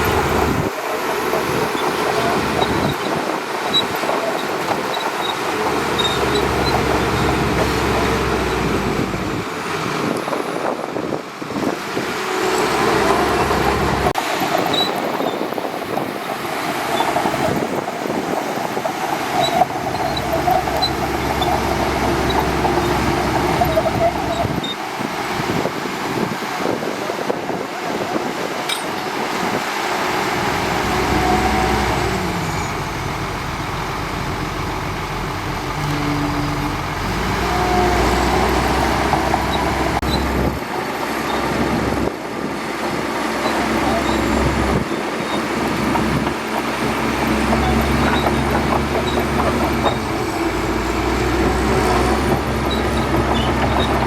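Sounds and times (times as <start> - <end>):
bulldozer engine running: 0.0 - 54.0.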